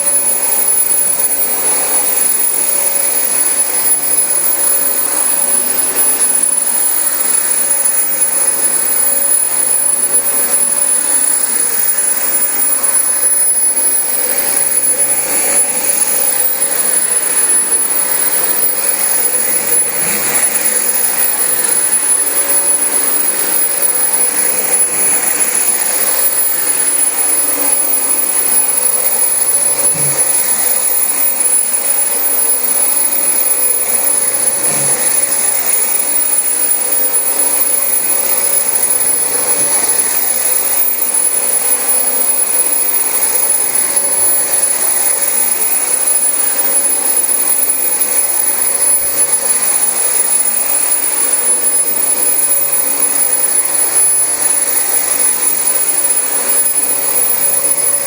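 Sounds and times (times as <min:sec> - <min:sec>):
vacuum cleaner whine: 0:00.0 - 0:58.0.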